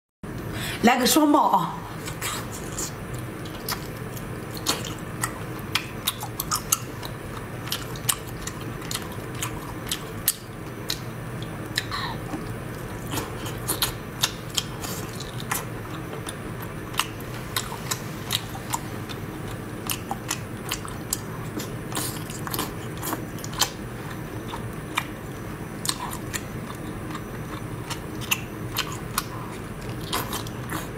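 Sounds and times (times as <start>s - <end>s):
low steady hum: 0.2s - 30.9s
wet biting and chewing: 2.0s - 30.9s.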